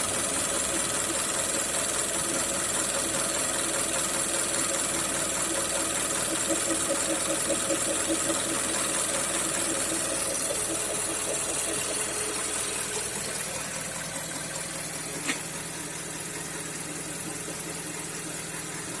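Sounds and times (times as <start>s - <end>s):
car engine idling with knock: 0.0s - 19.0s.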